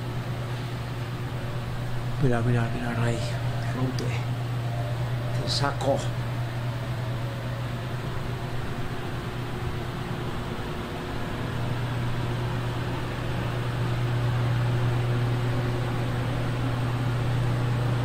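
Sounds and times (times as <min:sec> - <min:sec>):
low mechanical hum with hiss: 0:00.0 - 0:18.0.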